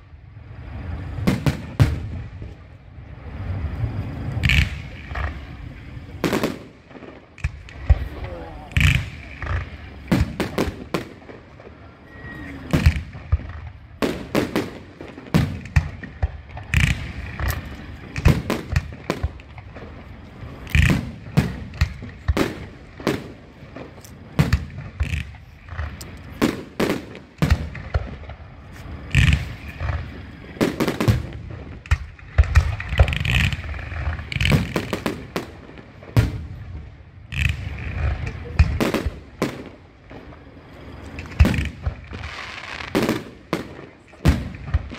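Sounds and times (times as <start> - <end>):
fireworks bangs: 0.0 - 44.9.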